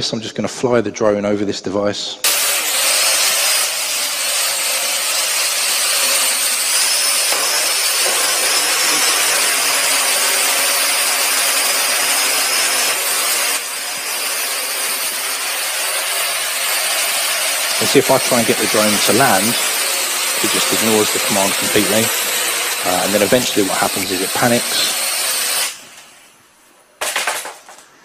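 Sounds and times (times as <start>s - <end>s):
drone rotors whirring: 2.3s - 25.9s.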